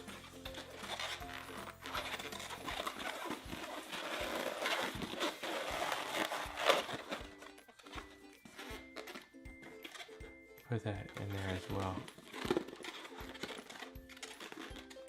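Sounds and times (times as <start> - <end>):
balloons rubbing and squeaking: 0.0 - 15.0.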